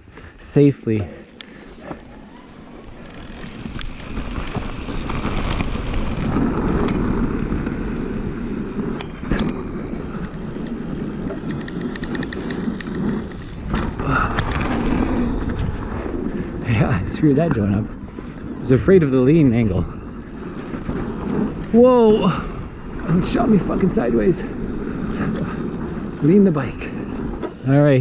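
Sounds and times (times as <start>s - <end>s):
bike tyres rumbling on trail: 0.9s - 28.0s
wind on microphone: 1.0s - 28.0s.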